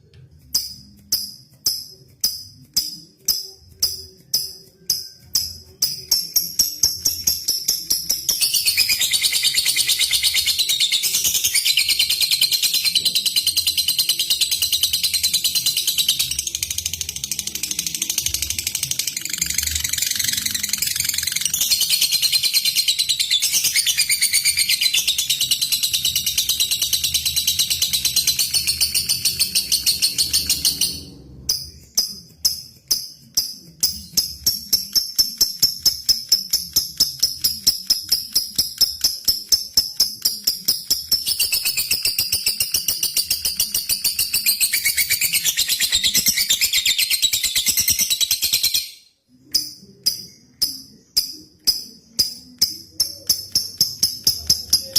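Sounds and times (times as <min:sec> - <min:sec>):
lovebird sharp chirps: 0:00.4 - 0:54.9.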